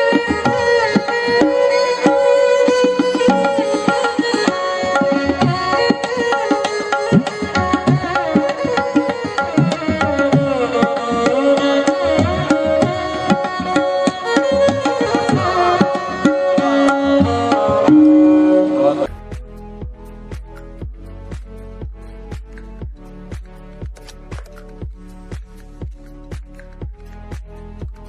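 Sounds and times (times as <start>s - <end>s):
tabla drumming: 0.0s - 28.0s.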